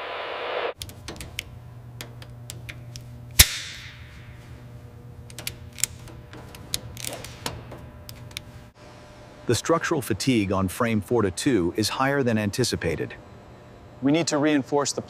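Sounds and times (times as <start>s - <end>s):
low hum: 0.0s - 14.1s.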